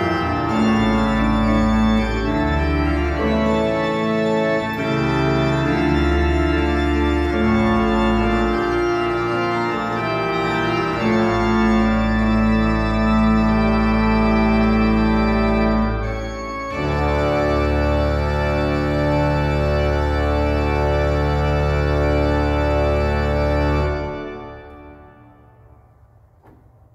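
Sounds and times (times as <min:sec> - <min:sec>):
pipe organ chords: 0:00.0 - 0:26.8
church reverberation: 0:00.0 - 0:26.9.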